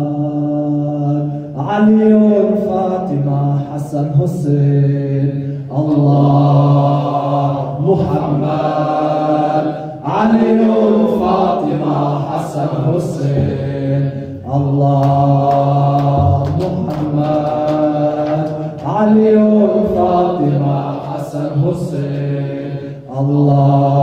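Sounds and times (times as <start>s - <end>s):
man chanting into a microphone: 0.0s - 24.0s.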